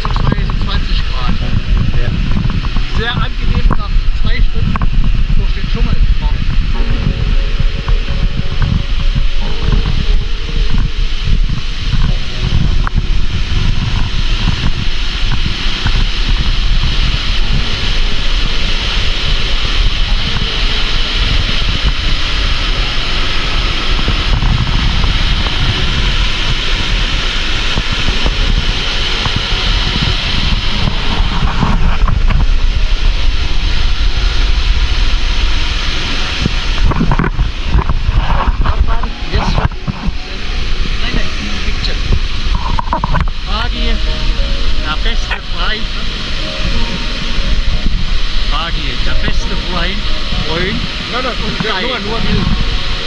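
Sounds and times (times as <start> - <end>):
waterfall rushing: 0.0 - 53.0
wind buffeting microphone: 0.0 - 53.0.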